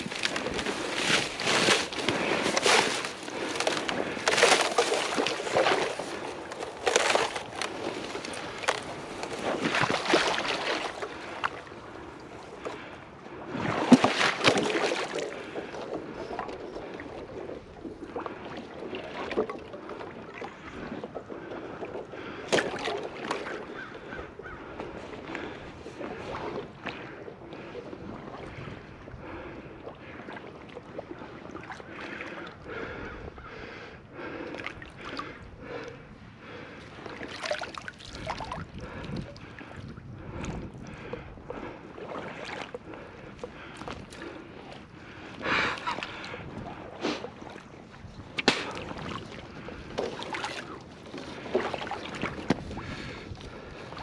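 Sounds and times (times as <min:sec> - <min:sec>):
water sloshing and splashing: 0:00.0 - 0:54.0.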